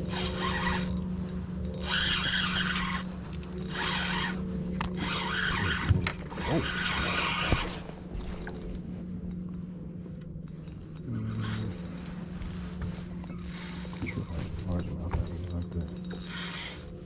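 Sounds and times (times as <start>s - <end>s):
fishing reel clicks and rustle: 0.0s - 17.0s
low motor hum: 0.0s - 17.0s.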